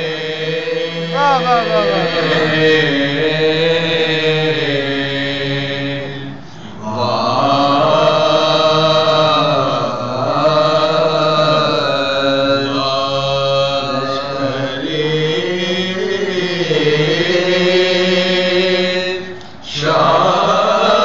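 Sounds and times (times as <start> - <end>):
men chanting a lament: 0.0 - 21.0.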